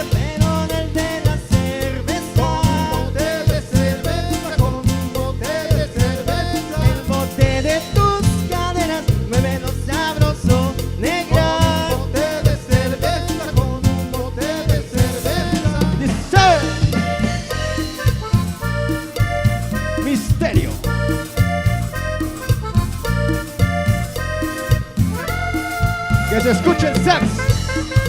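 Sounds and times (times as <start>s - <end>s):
cumbia band playing: 0.0s - 28.0s.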